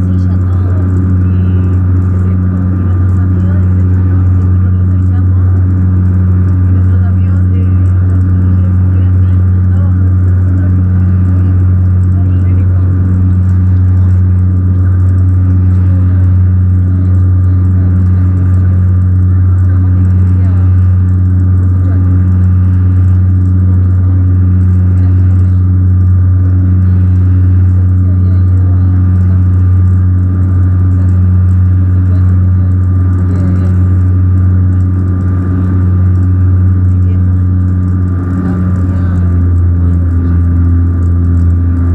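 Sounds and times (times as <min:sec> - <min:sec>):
faint high whine: 0:00.0 - 0:41.9
propeller airliner engine drone: 0:00.0 - 0:41.9.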